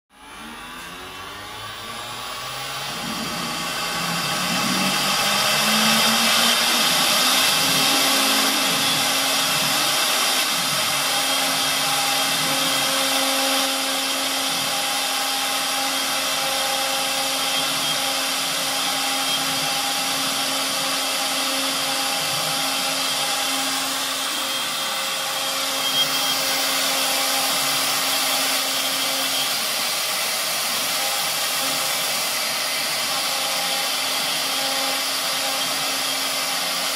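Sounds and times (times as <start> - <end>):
router spindle high whine: 0.1 - 36.9
hiss of cutting wood: 0.4 - 36.9.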